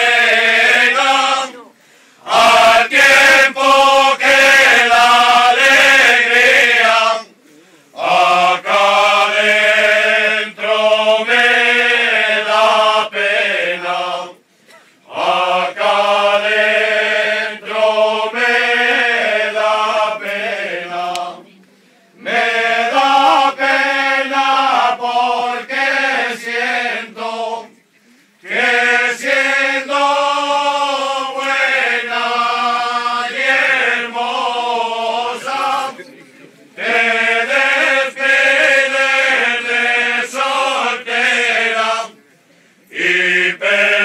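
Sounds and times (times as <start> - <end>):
group singing unaccompanied: 0.0 - 21.6, 22.2 - 27.8, 28.4 - 42.3, 42.9 - 44.0.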